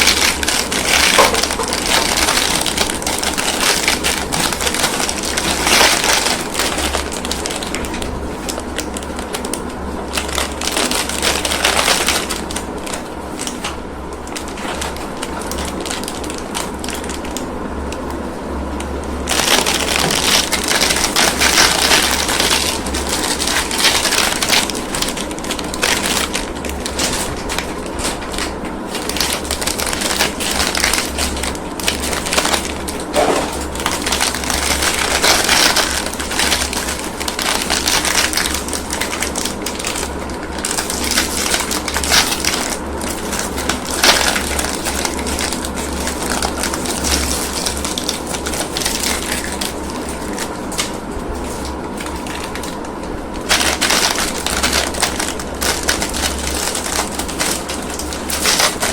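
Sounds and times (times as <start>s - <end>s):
plastic wrappers crinkling: 0.0s - 58.9s.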